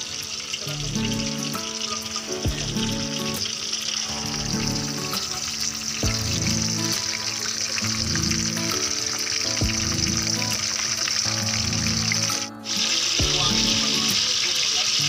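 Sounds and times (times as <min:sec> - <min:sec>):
background music: 0:00.0 - 0:15.0
fish sizzling in hot oil: 0:00.0 - 0:15.0.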